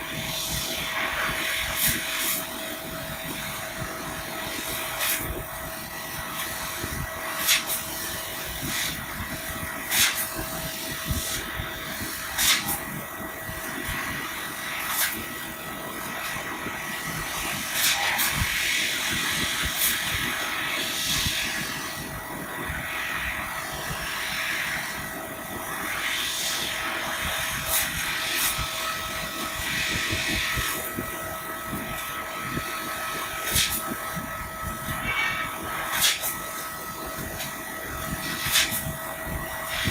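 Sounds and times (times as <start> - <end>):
laser cutter hiss and hum: 0.0 - 39.9.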